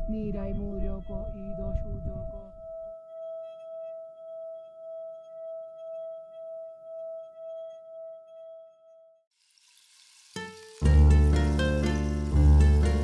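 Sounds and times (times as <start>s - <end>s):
singing bowl ringing: 0.0s - 9.3s, 11.0s - 13.0s.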